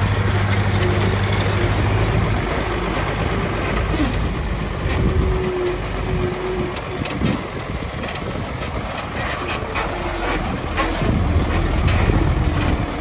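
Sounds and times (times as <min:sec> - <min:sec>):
diesel machinery engine: 0:00.0 - 0:13.0.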